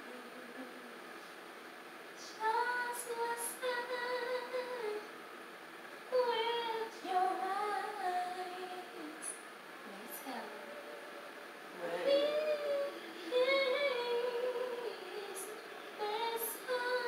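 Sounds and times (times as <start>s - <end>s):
woman singing unaccompanied: 0.0s - 1.0s, 2.2s - 5.1s, 6.1s - 17.0s.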